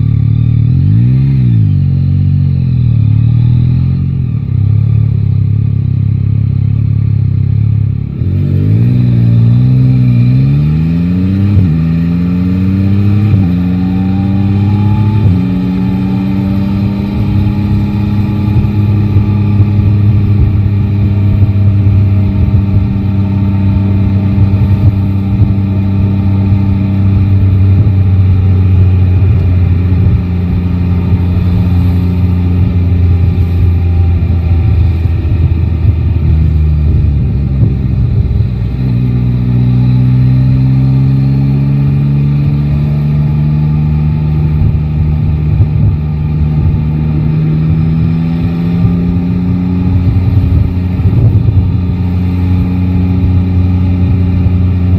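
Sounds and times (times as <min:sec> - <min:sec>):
motorcycle accelerating through gears: 0:00.0 - 0:54.9.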